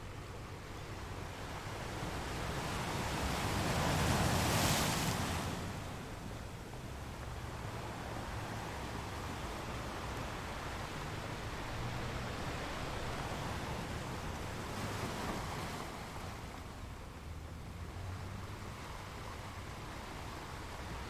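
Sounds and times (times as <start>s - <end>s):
sea waves washing on shore: 0.6s - 21.0s.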